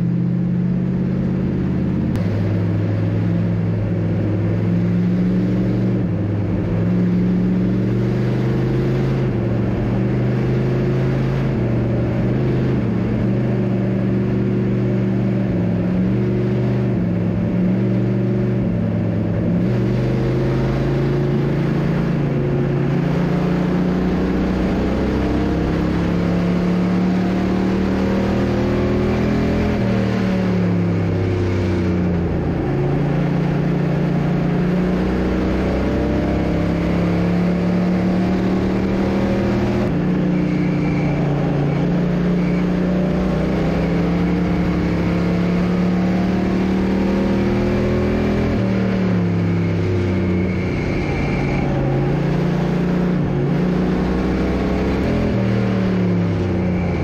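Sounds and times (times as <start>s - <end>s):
race car engine from inside: 0.0s - 57.0s.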